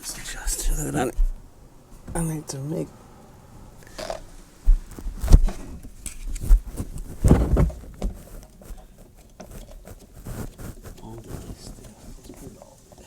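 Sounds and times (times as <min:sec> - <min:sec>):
dull thumps: 0:00.0 - 0:02.4, 0:03.8 - 0:13.0.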